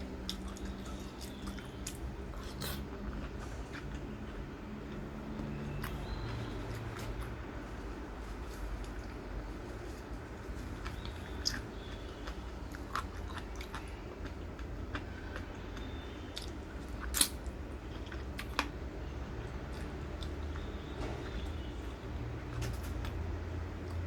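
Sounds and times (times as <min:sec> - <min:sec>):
person chewing crunchy food: 0:00.0 - 0:07.6, 0:08.3 - 0:21.8.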